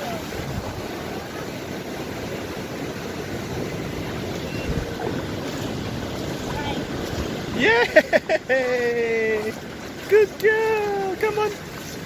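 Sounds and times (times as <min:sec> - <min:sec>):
wind buffeting microphone: 0:00.0 - 0:10.9
surf washing on beach: 0:00.0 - 0:12.0.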